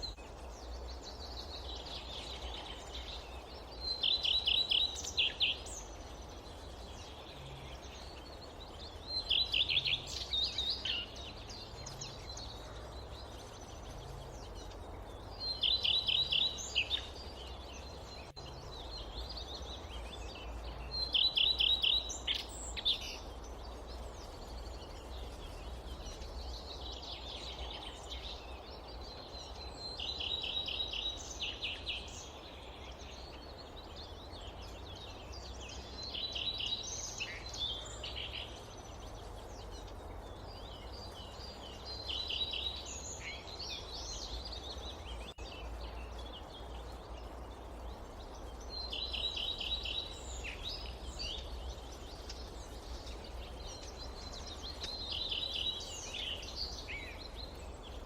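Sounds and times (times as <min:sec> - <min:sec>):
low forest background noise: 0:00.0 - 0:58.0.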